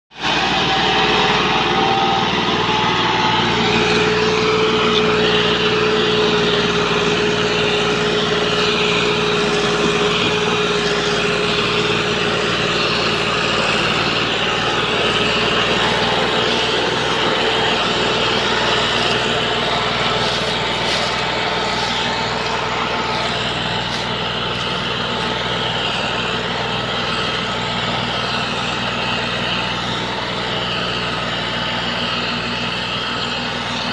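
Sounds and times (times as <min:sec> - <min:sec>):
tractor diesel engine under load: 0:00.0 - 0:33.9
steady whine: 0:00.1 - 0:33.9.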